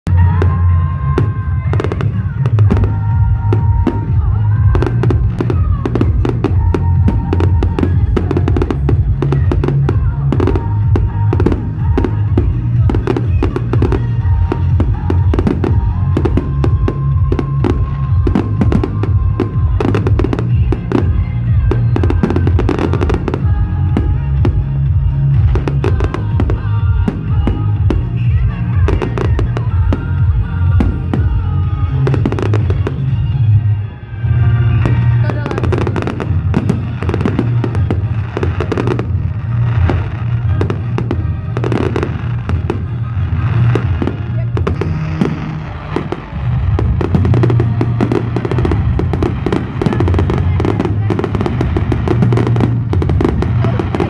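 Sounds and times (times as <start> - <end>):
loud music with heavy bass: 0.0 - 54.0
fireworks bangs and crackles: 0.1 - 54.0.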